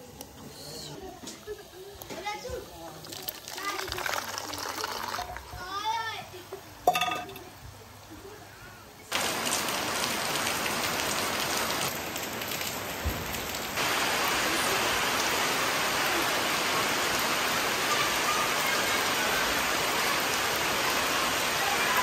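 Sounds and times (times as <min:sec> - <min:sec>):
rain falling: 0:01.0 - 0:22.0.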